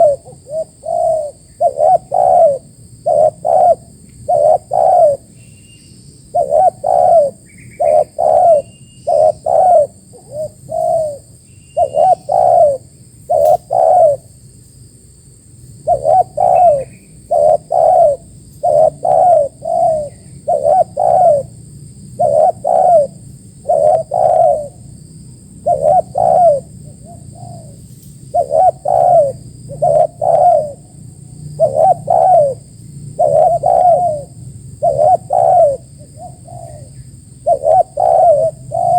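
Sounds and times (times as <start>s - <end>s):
doves cooing: 0.0s - 5.4s, 6.3s - 14.3s, 15.8s - 38.9s
small birds chirping: 0.0s - 14.8s, 15.6s - 38.9s.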